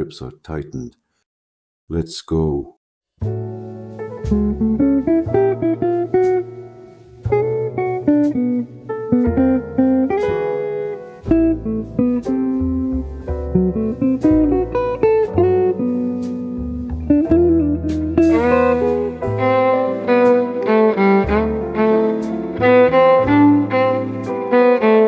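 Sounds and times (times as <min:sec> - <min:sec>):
plucked guitar tune with bass: 0:03.2 - 0:25.0.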